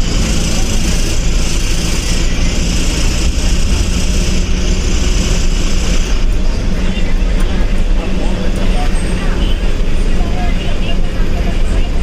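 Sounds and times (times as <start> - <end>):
diesel engine humming: 0.0 - 12.0
road and wind hiss: 0.0 - 12.0.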